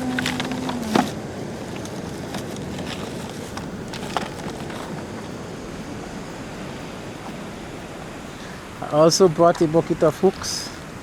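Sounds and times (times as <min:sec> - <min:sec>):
ocean surf: 0:00.0 - 0:11.0
wind: 0:00.0 - 0:11.0.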